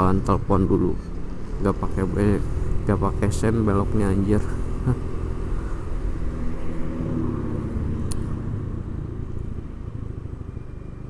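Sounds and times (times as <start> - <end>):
scooter engine running: 0.9 - 11.0.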